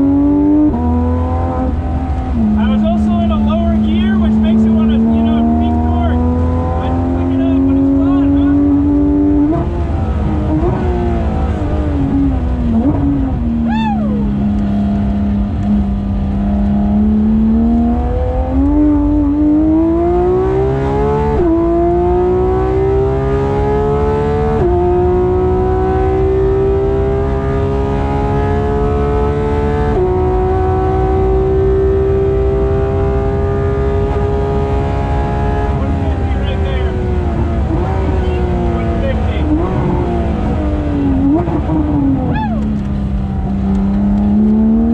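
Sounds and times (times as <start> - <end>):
sports car engine revving: 0.0 - 44.9.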